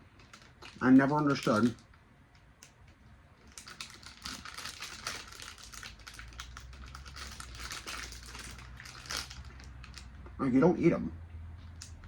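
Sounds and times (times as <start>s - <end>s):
plastic packaging crackling: 0.0s - 10.1s.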